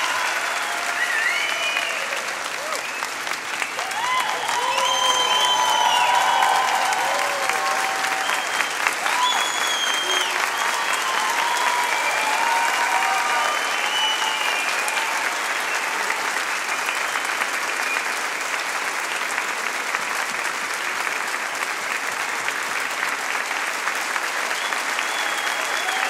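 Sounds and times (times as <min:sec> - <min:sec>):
crowd cheering: 0:00.0 - 0:26.0
large audience applauding: 0:00.0 - 0:26.0.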